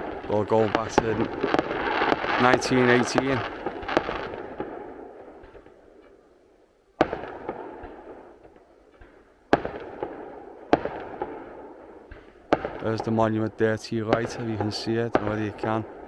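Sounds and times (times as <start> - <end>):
fireworks bangs with rumbling echo: 0.0 - 6.2, 7.0 - 16.0.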